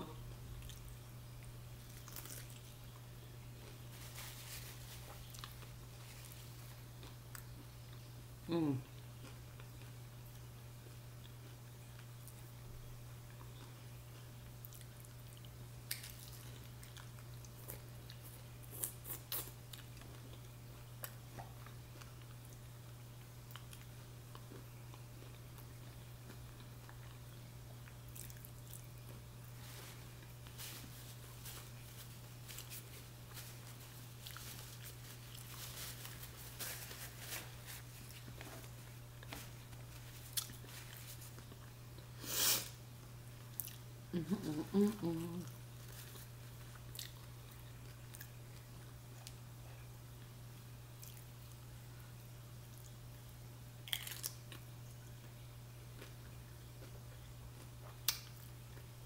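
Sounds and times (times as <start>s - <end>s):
chewing and crunching food: 0.5s - 8.2s, 8.8s - 42.2s, 43.0s - 59.0s.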